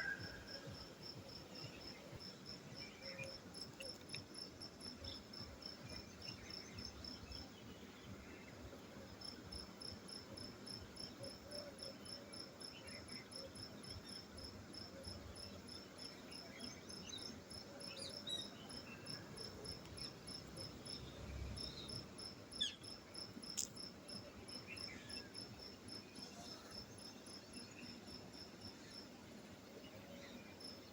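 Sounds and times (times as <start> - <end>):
insect chirping: 0.0 - 30.9.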